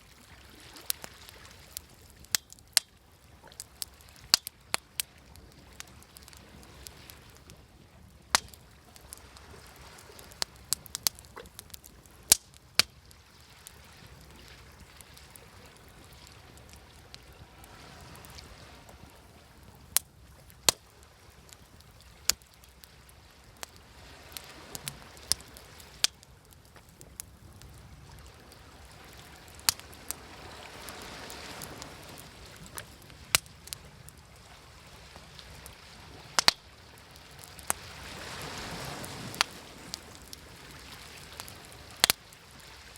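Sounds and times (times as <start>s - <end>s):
wood fire crackling: 0.0s - 42.9s
sea waves washing in: 3.5s - 26.3s, 26.9s - 42.9s.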